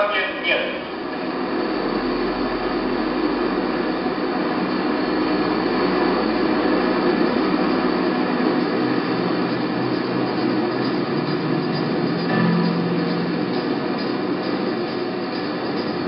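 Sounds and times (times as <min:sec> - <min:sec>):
jet engines roaring in flight: 0:00.0 - 0:16.0.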